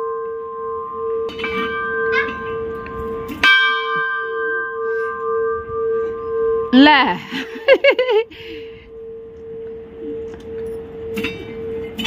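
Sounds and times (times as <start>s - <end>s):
large metal bell ringing: 0.0s - 12.0s.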